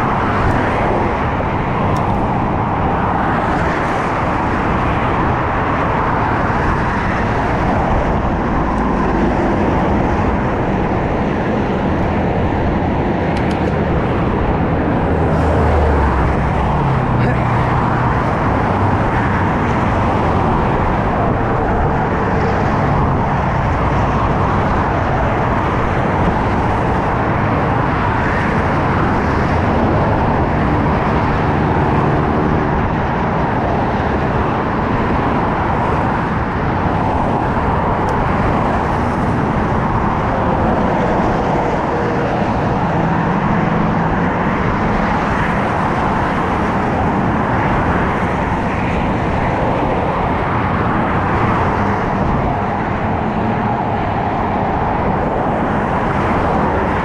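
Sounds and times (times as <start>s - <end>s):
freeway traffic passing: 0.0s - 57.0s.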